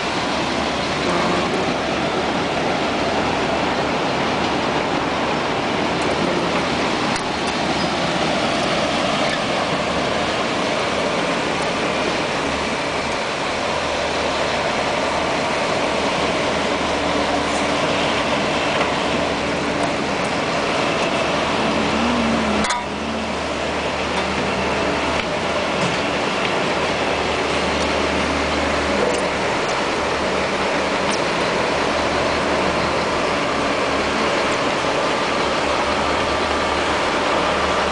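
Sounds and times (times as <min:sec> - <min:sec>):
asphalt milling machine cutting: 0:03.8 - 0:37.9.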